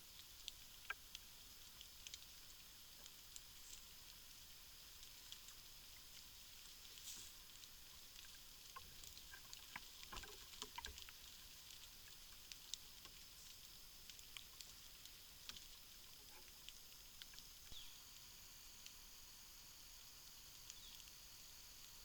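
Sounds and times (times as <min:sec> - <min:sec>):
faint ticks and rustles: 0:00.0 - 0:22.0
steady high hiss: 0:00.0 - 0:22.0.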